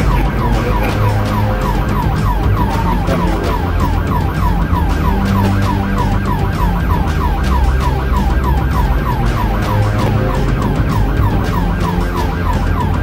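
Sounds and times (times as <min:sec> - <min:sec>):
low rumble of moving car: 0:00.0 - 0:13.0
police siren yelping: 0:00.0 - 0:13.0.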